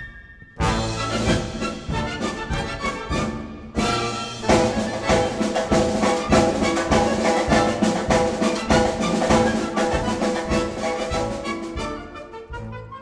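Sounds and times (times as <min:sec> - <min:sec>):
orchestral dance music: 0:00.0 - 0:13.0.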